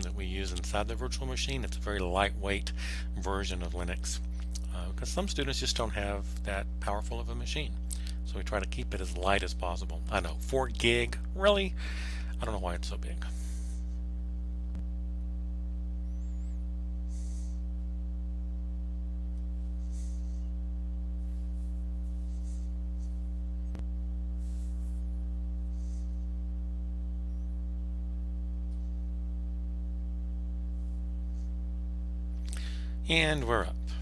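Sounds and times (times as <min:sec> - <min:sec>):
electrical mains hum: 0:00.0 - 0:34.0.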